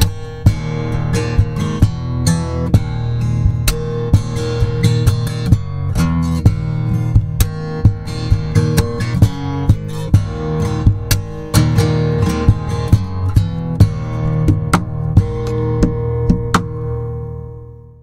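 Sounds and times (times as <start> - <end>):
acoustic guitar fingerstyle: 0.0 - 18.0
percussive accents on guitar strings: 0.0 - 18.0.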